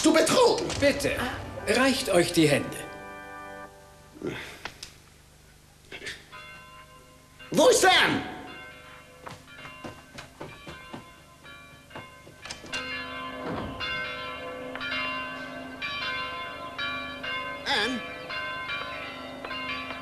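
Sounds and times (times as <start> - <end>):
church bells pealing: 0.0 - 4.1, 6.3 - 20.0.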